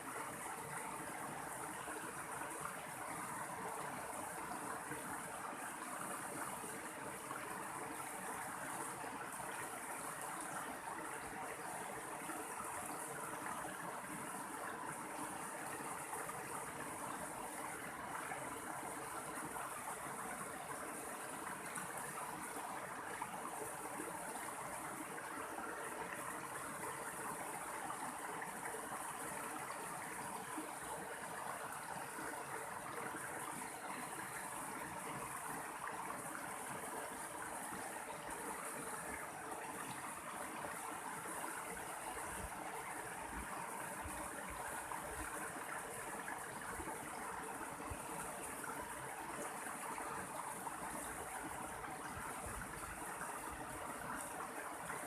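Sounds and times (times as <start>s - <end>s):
stream water rushing and splashing: 0.0s - 55.0s.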